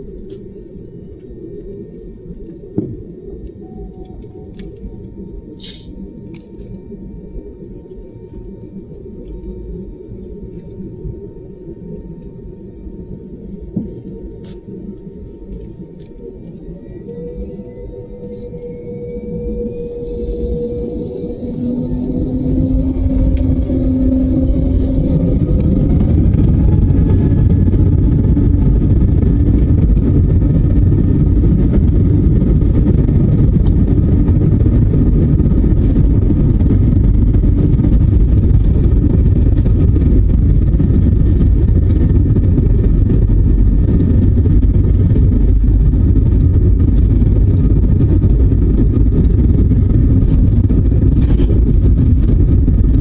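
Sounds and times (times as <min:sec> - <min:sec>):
faint steady whine: 0:00.0 - 0:53.0
jet engine cabin rumble: 0:00.0 - 0:53.0
low hum: 0:00.0 - 0:53.0.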